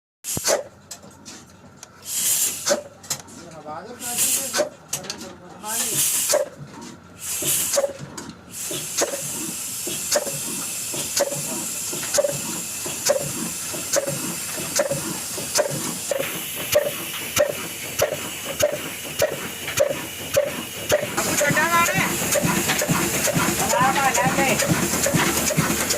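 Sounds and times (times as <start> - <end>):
diesel engine starting: 0.3 - 25.9.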